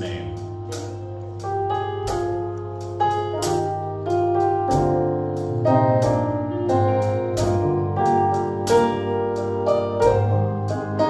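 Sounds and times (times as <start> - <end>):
percussion strikes: 0.0 - 10.8
held bass: 0.0 - 11.0
keyboard chords: 0.0 - 11.0.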